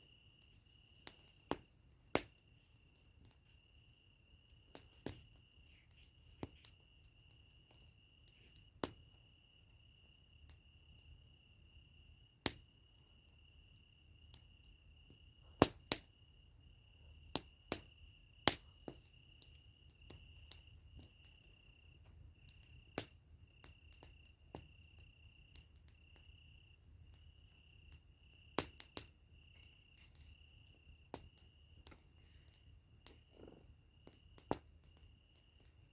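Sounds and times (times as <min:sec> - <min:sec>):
campfire crackling and popping: 0:00.0 - 0:11.4, 0:12.2 - 0:35.9.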